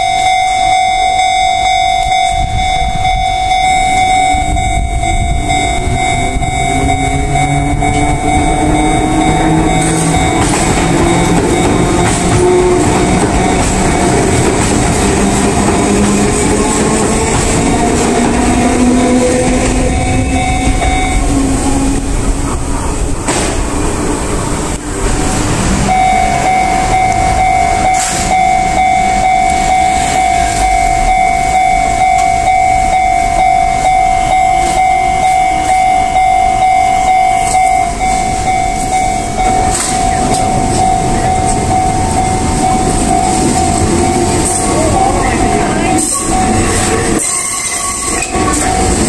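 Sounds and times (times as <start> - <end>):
level crossing bell ringing: 0.0 - 16.6, 17.2 - 21.4, 25.8 - 49.0
train motor whine: 0.1 - 49.0.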